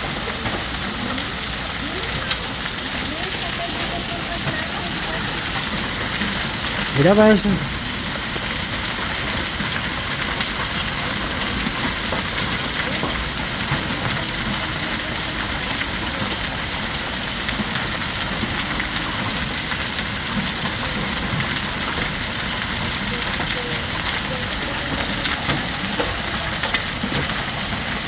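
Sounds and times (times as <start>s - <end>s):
hailstones ticking: 0.0s - 28.0s
heavy rain rushing: 0.0s - 28.0s.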